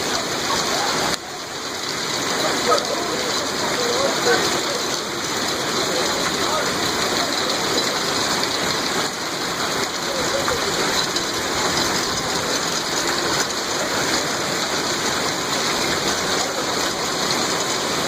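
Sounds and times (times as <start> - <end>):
heavy rain downpour: 0.0 - 18.0.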